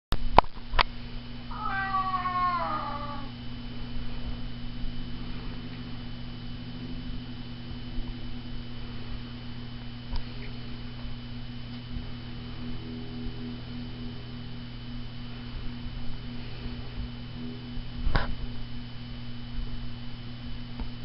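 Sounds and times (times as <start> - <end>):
low electrical hum: 0.1 - 21.0.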